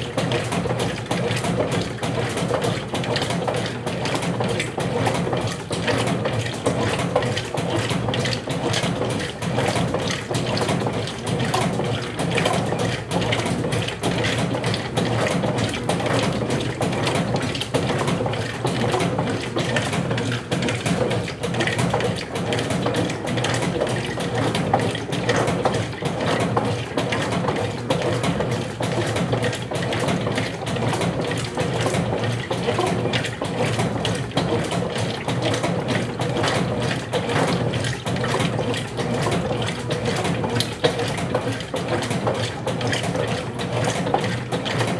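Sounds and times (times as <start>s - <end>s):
washing machine motor hum: 0.0s - 44.9s
water churning in washing machine: 0.0s - 44.9s.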